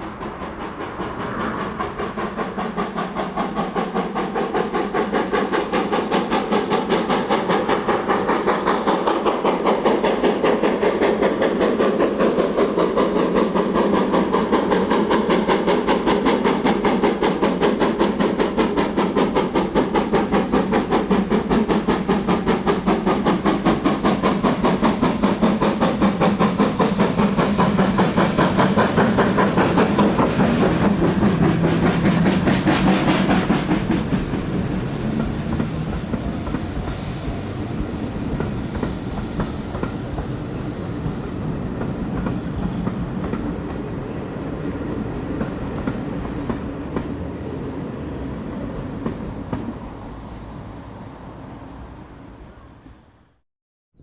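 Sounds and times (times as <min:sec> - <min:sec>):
steam hissing: 0:00.0 - 0:51.9
steam locomotive exhaust beats: 0:00.0 - 0:52.5.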